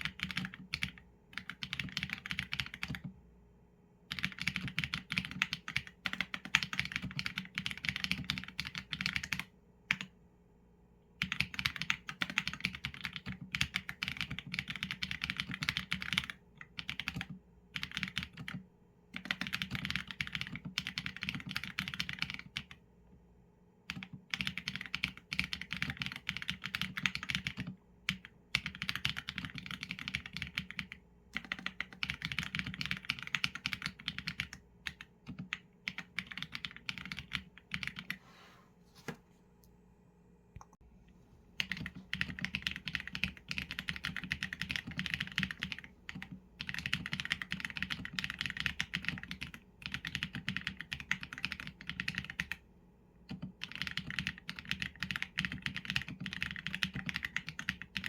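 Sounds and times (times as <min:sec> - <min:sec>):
mechanical keyboard typing: 0:00.0 - 0:03.1, 0:04.1 - 0:10.1, 0:11.2 - 0:18.6, 0:19.2 - 0:22.8, 0:23.9 - 0:38.2, 0:41.6 - 0:52.6, 0:53.3 - 0:58.0.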